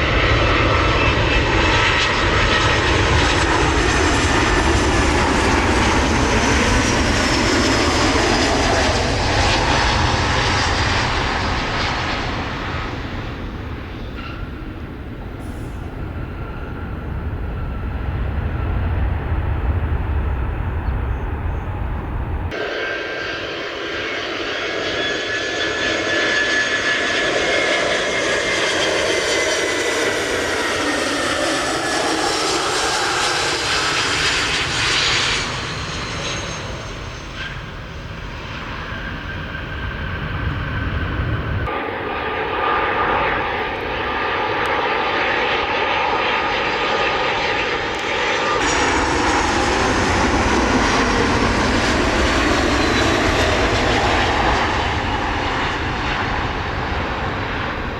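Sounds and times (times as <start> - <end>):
jet airliner engines whining: 0.0 - 57.9.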